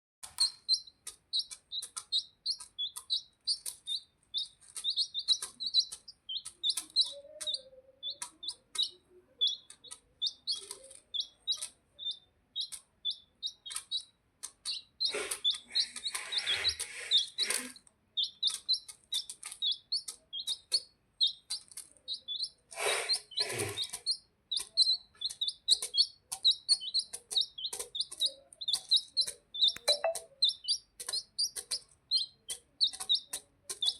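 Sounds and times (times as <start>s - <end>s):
birds chirping: 0.2s - 33.9s
rough bird calls: 0.2s - 33.9s.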